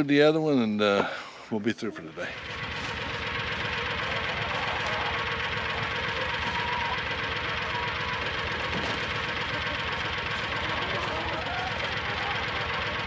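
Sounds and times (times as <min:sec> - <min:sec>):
vehicle engine pulsing: 0:02.0 - 0:13.0.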